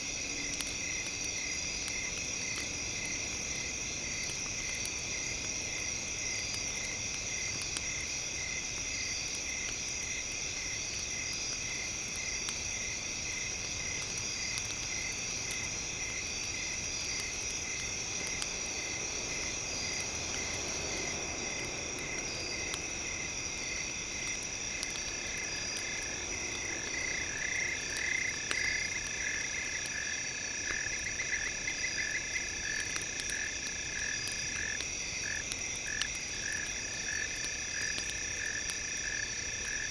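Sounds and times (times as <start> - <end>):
faint crackles: 0.0 - 39.9
frogs croaking and trilling: 0.0 - 39.9
insects buzzing and chirping: 0.0 - 39.9.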